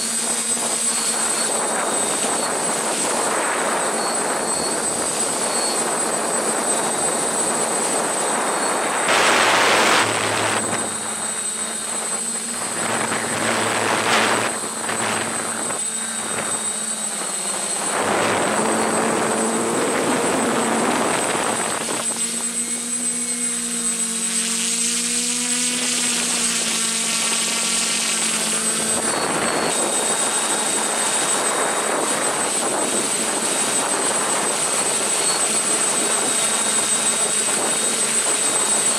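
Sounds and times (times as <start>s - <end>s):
drone propellers whirring: 0.0s - 38.9s
high motor whine: 0.0s - 38.9s.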